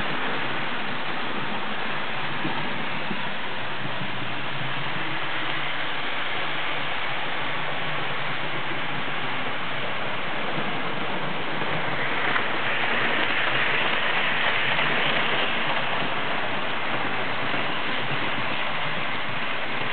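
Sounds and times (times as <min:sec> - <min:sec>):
model train rolling on track: 0:00.0 - 0:19.9.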